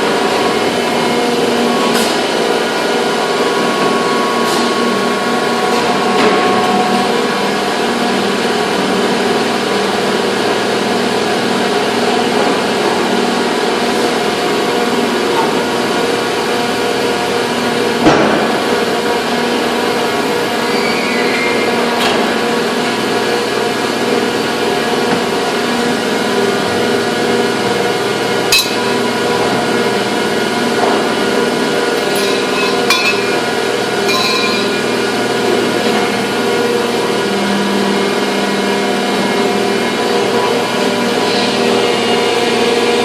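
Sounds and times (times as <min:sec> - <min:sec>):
factory machinery humming: 0:00.0 - 0:43.0.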